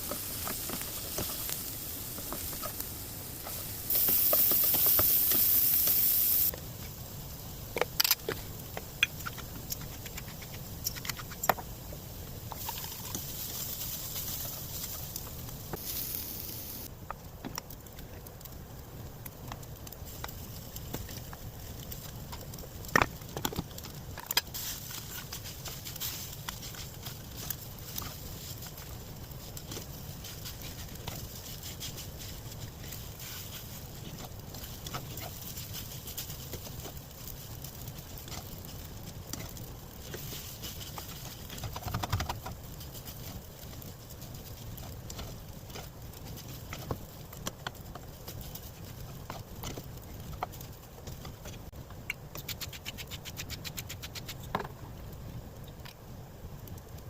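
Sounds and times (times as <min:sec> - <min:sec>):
rice sizzling in a pan: 0:00.0 - 0:55.2.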